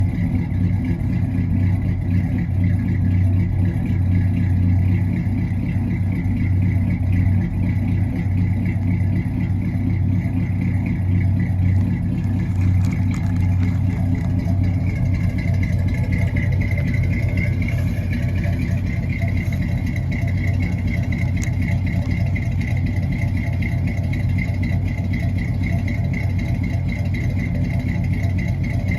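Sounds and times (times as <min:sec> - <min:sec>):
pickup engine idling: 0:00.0 - 0:28.9.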